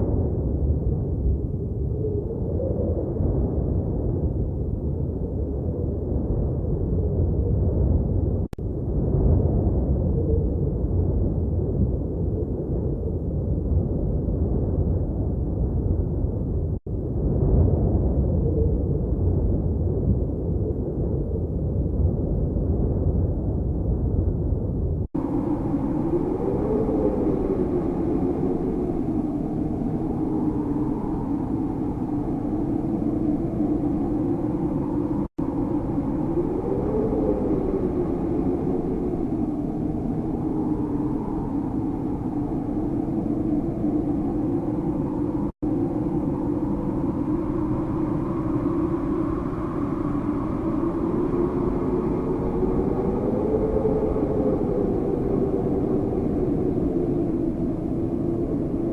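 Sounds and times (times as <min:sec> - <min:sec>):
strong howling wind: 0:00.0 - 0:58.9.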